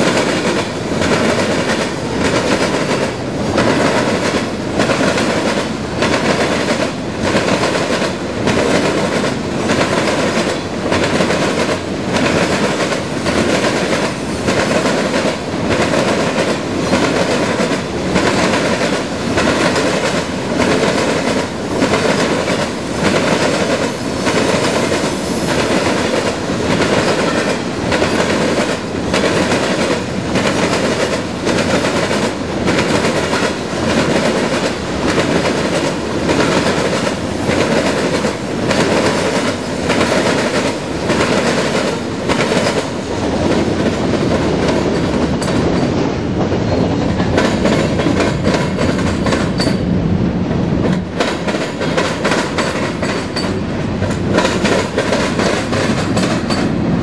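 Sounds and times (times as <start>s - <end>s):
train wheels clattering over rail joints: 0.0s - 50.0s, 50.8s - 56.8s.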